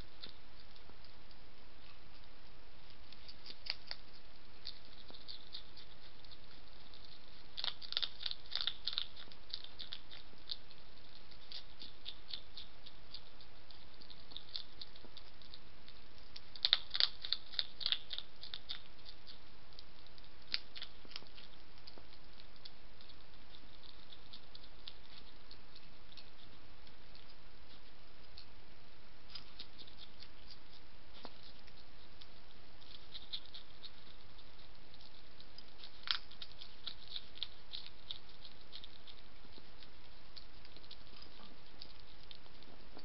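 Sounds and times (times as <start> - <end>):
hedgehog crunchy chewing: 0.0 - 43.0.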